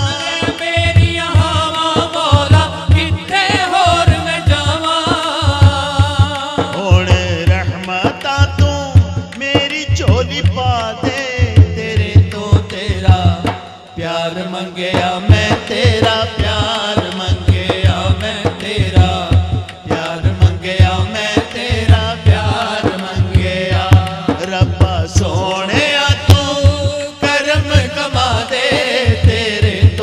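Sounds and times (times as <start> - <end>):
man singing into microphone: 0.0 - 30.0
rhythmic drum accompaniment: 0.0 - 30.0.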